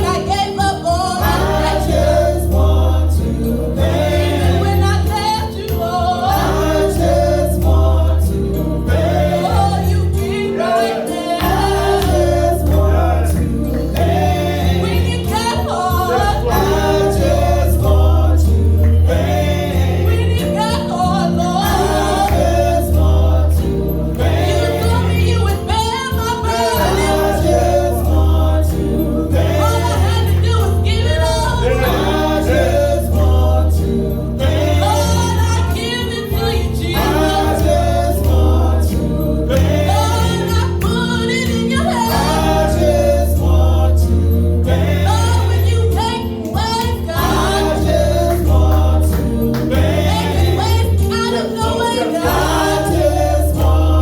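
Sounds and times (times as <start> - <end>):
band accompaniment with bass line: 0.0 - 54.0
choir singing gospel: 0.0 - 54.0.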